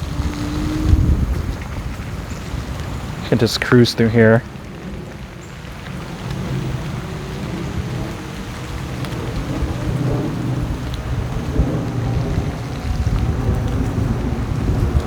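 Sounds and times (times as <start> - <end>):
scooter tyres on wet pavement: 0.0 - 15.0
wind buffeting microphone: 0.0 - 15.0.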